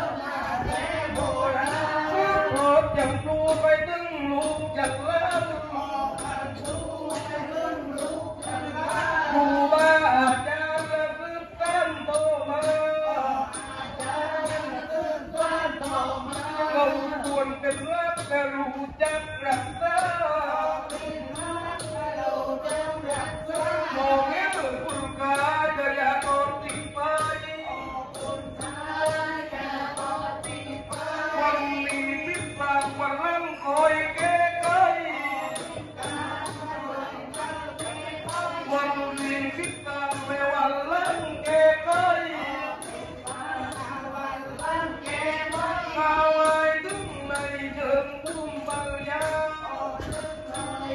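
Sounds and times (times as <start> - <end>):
ensemble percussion beat: 0.0 - 50.9
man chanting verse: 0.0 - 50.9
small cymbals ticking: 0.0 - 50.9.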